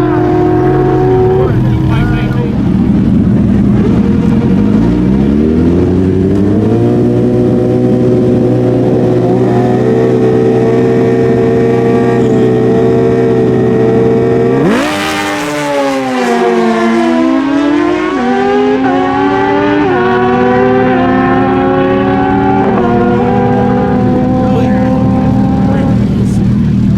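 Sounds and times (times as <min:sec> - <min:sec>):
drag bikes revving and launching: 0:00.0 - 0:26.9.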